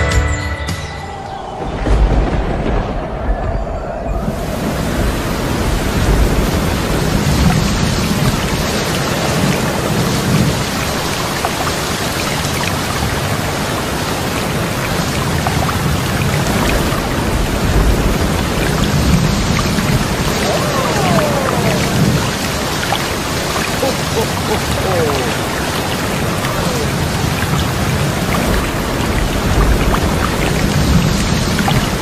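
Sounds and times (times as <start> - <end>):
water rushing through spillways: 4.2 - 32.0.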